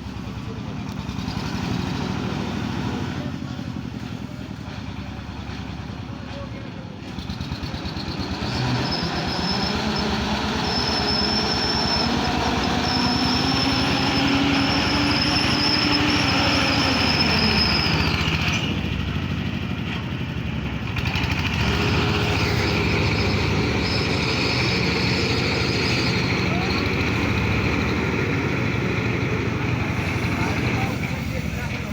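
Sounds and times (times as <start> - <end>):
powerful engine running: 0.0 - 31.9.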